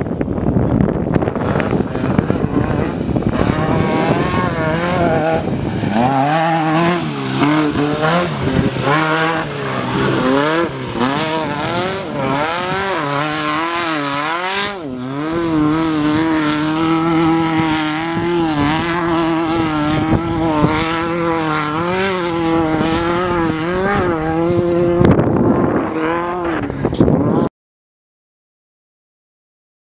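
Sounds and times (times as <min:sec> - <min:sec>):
rush of noise: 0:00.0 - 0:27.5
race vehicle engine revving: 0:00.1 - 0:27.5.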